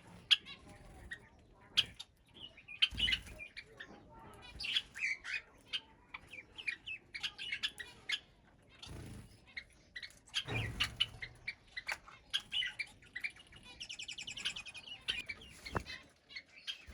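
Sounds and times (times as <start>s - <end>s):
flock of birds chirping: 0.0s - 16.9s.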